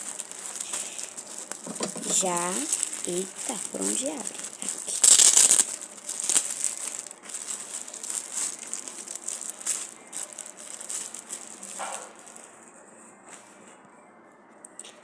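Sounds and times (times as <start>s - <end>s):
package wrapping tearing and crinkling: 0.0s - 12.5s.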